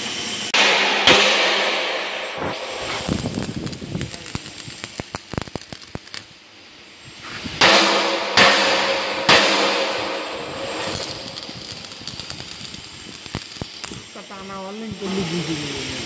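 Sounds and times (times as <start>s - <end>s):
welding arc crackling and hissing: 0.0s - 16.0s.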